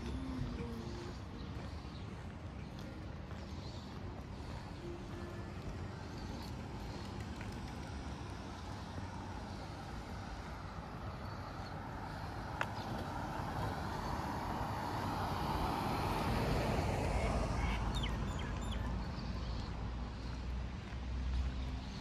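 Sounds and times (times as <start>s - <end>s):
car passing: 0.0s - 22.0s
street traffic noise: 0.0s - 22.0s.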